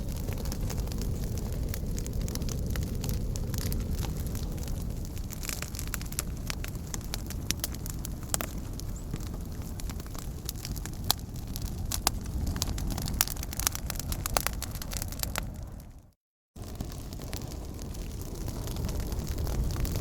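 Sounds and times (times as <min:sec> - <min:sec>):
fire crackling and popping: 0:00.0 - 0:20.0
low rumble of burning: 0:00.0 - 0:20.0.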